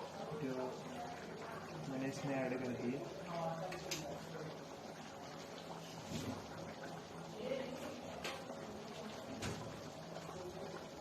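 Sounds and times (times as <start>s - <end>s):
gravy cooking: 0.0s - 11.0s.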